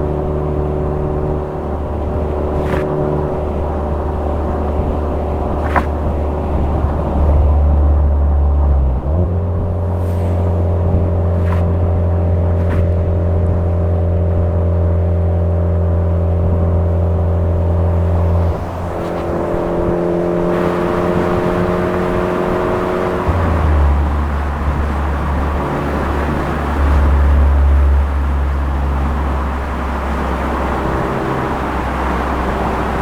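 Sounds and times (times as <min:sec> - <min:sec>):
car engine droning at cruise: 0:00.0 - 0:33.0.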